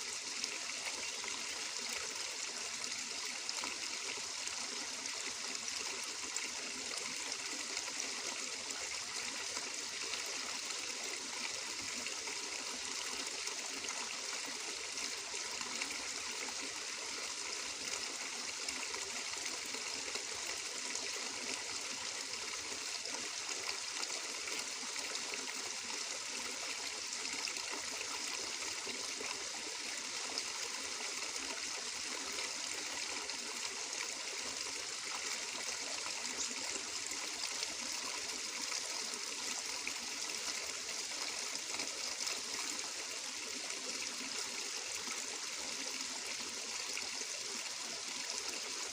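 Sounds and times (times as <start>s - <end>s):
water trickling and bubbling: 0.0s - 48.9s.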